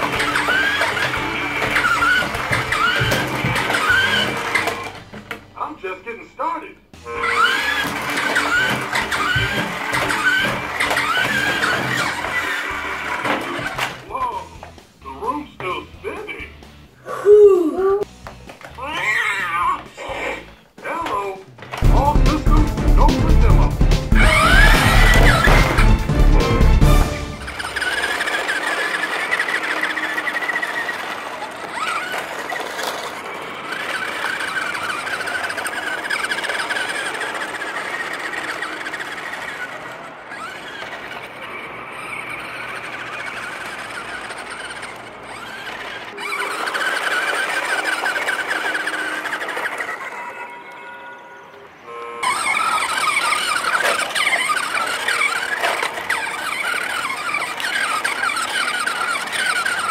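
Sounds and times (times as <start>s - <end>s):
toy mechanism whirring and squealing: 0.0s - 5.7s, 7.0s - 59.9s.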